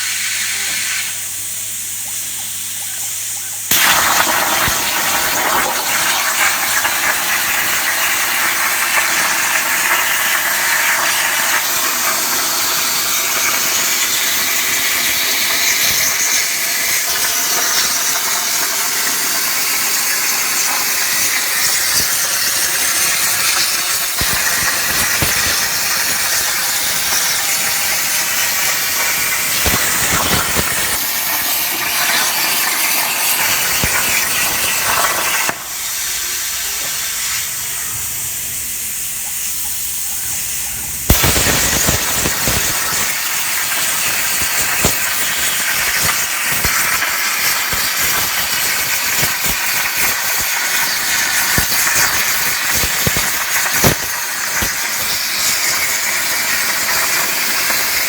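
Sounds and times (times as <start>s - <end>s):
plasma cutter hissing: 0.0s - 58.0s.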